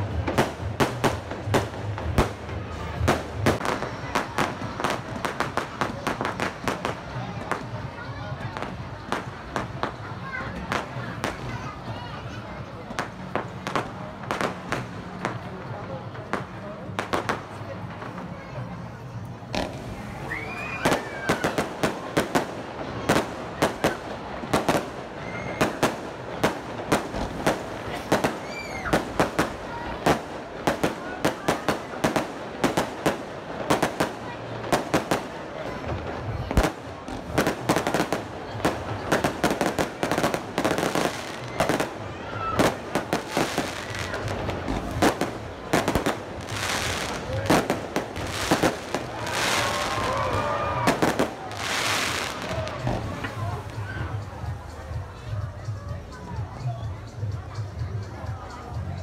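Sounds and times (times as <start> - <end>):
fireworks bursting with sharp bangs: 0.0 - 54.2.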